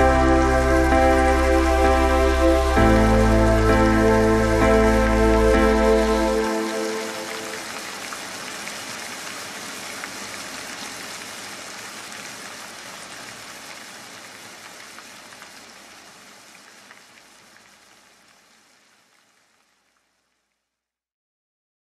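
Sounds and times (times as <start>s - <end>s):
steady rain falling: 0.0s - 20.7s.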